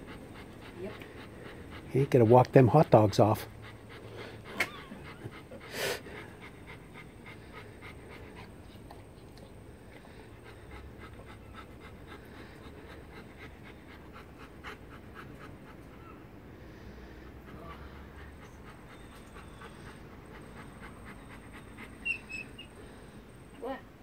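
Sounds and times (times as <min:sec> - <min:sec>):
dog panting: 0:00.0 - 0:23.5.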